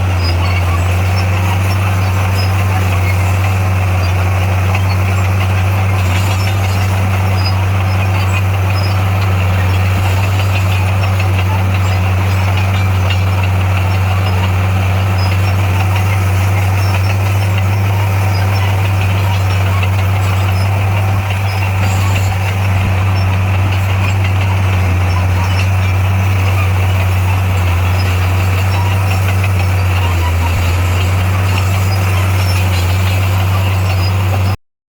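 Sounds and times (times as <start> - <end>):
heavy diesel engine running: 0.0 - 34.6.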